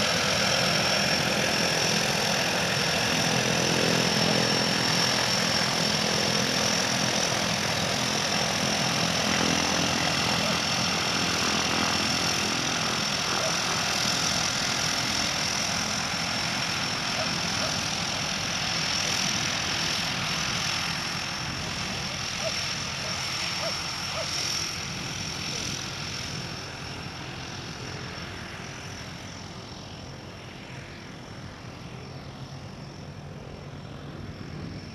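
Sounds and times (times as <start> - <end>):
floatplane engine whining: 0.0 - 34.9.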